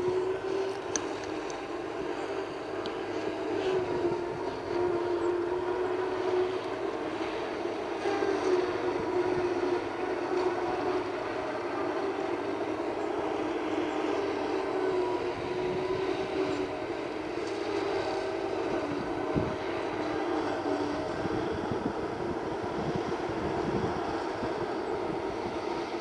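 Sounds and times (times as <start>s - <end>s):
harvester mechanical drone: 0.0s - 26.0s.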